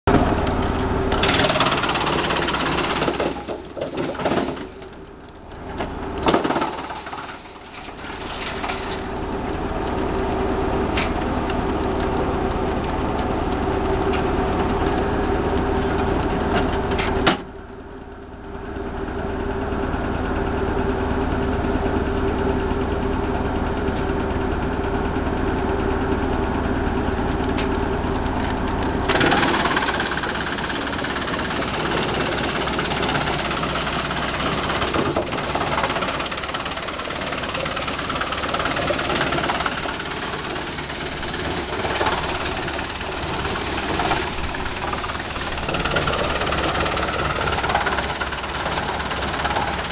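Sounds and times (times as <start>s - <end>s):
wood chipper humming: 0.0s - 49.9s.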